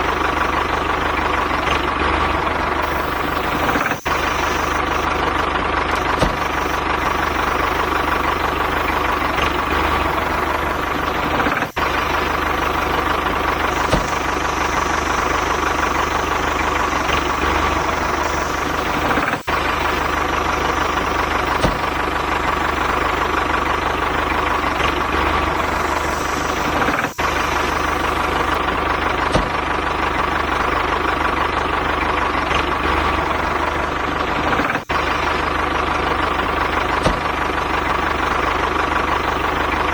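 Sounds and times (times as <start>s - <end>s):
small engine idling: 0.0s - 39.9s.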